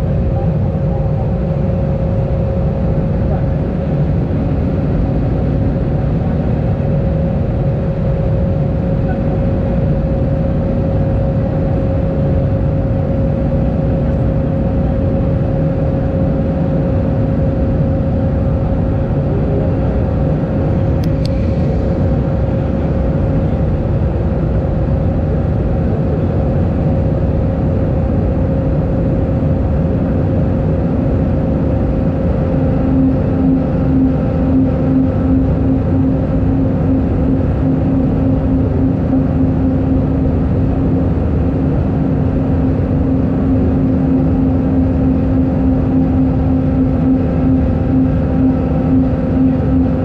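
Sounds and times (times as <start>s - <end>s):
constant droning tone: 0.0s - 50.0s
jet engine cabin rumble: 0.0s - 50.0s.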